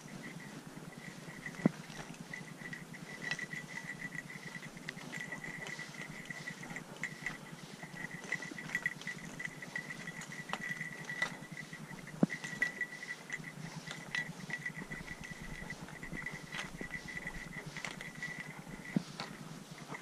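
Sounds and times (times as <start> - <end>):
insect trilling: 0.0 - 19.2.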